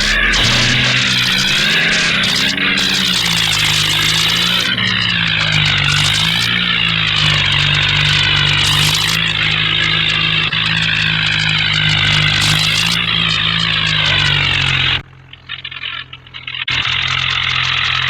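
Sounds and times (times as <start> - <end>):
wavering whine: 0.0 - 16.7
vehicle engine running: 0.0 - 18.0.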